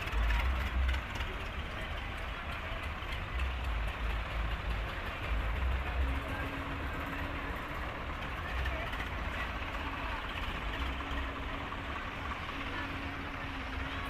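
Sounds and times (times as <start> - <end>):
indistinct crowd voices: 0.0 - 14.0
tractor diesel engines rumbling: 0.0 - 14.0.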